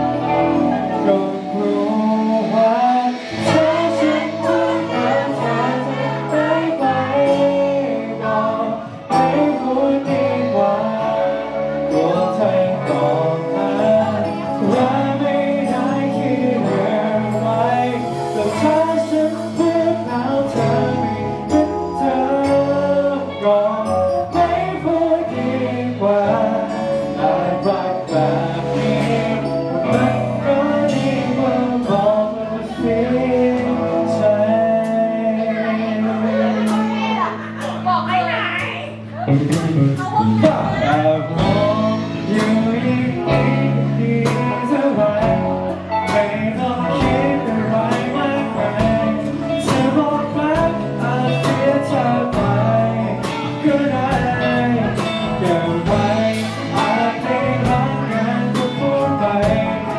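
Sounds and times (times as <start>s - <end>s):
live band playing pop music: 0.0s - 59.9s.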